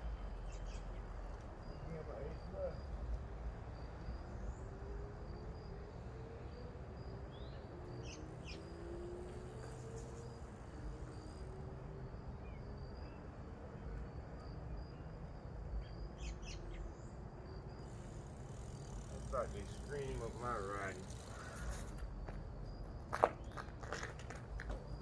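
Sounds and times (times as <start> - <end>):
insects trilling: 0.2 - 25.0.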